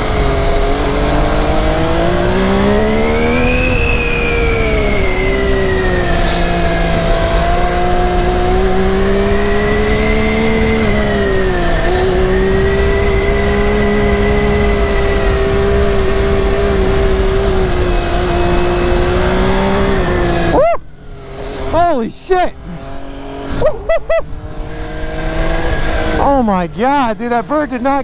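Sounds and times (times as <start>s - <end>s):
constant rushing noise: 0.0s - 28.0s
motorcycle engine revving high: 0.0s - 28.0s.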